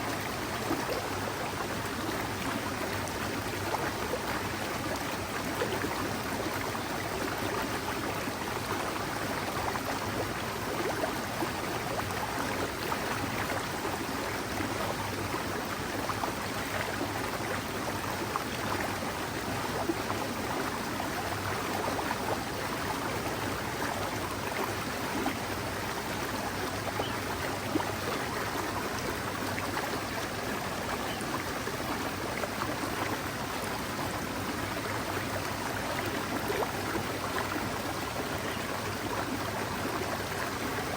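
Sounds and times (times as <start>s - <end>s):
mountain stream babbling: 0.0s - 40.9s.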